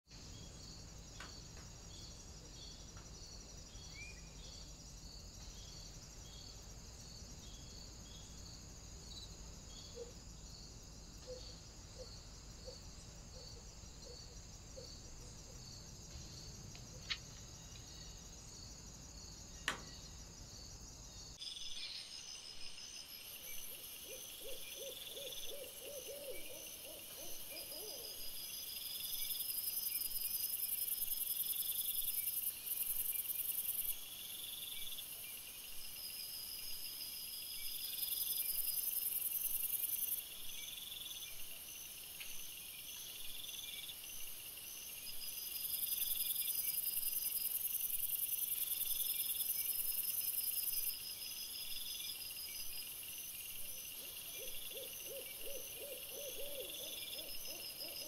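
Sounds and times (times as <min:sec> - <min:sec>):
insects chirping: 0:00.1 - 0:58.0.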